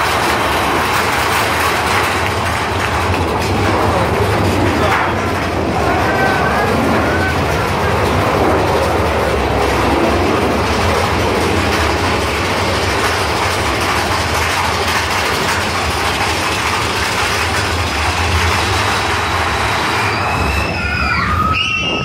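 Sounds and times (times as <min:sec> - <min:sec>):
roller coaster rolling on track: 0:00.0 - 0:22.0.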